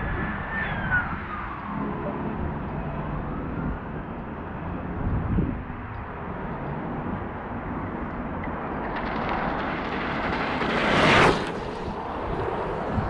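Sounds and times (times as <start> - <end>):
electric vehicle passing by: 0.0 - 13.0.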